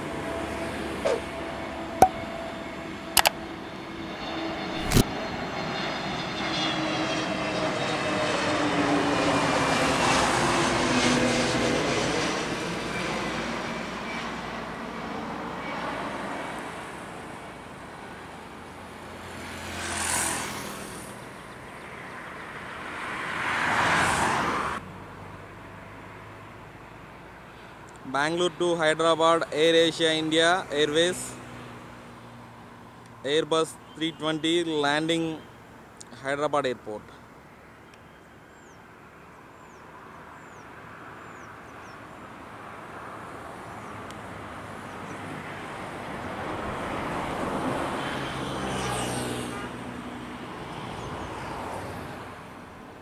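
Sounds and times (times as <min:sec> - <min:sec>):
airliner passing overhead: 0:00.0 - 0:53.0.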